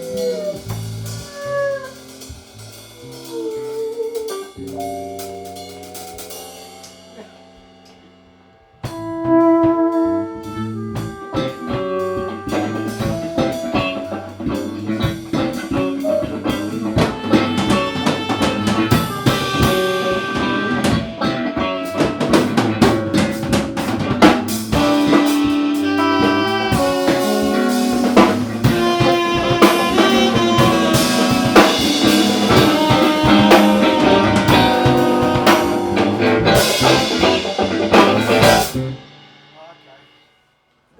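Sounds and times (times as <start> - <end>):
drum kit beat: 0.0 - 40.3
pitched instruments playing chords: 4.5 - 39.4.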